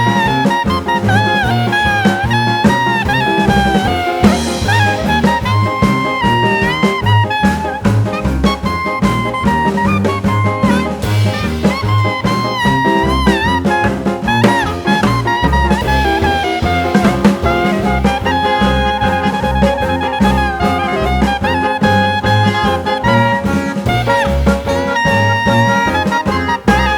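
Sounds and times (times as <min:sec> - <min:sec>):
drums: 0:00.0 - 0:26.9
jazz horn melody with vibrato: 0:00.0 - 0:26.9
pulsing bass line: 0:00.0 - 0:26.9.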